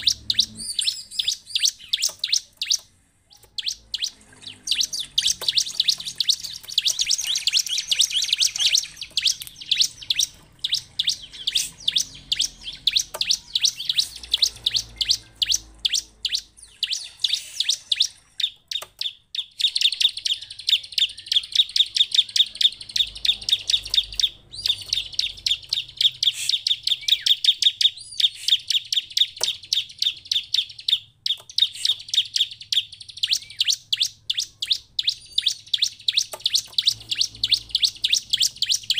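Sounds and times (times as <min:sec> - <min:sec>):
bird chirping high-pitched: 0:00.0 - 0:38.9.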